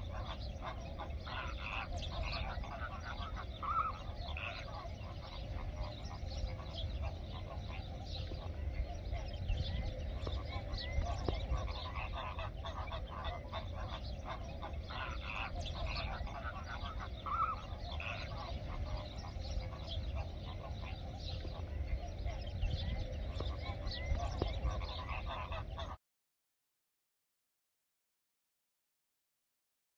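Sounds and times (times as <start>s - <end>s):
flamingos honking and chattering: 0.0s - 26.0s.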